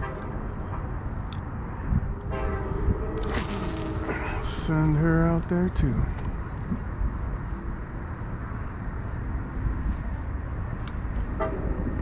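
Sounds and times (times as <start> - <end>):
distant city traffic: 0.0 - 12.0
wind on microphone: 0.8 - 12.0.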